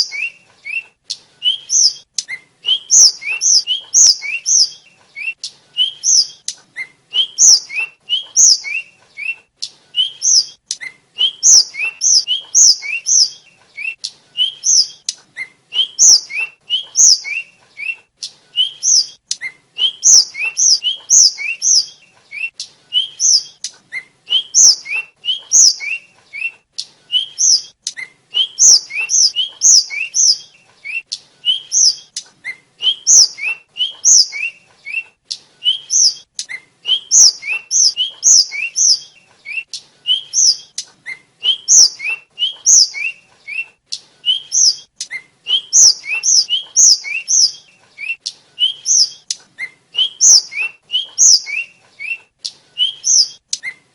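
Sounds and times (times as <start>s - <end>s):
bird whistling song: 0.0s - 53.9s.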